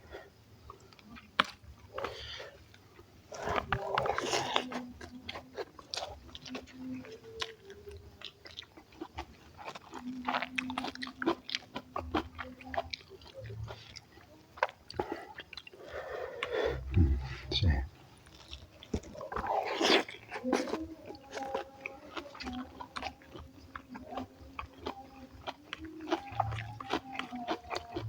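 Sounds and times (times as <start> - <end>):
person chewing and crunching food: 0.0 - 28.0.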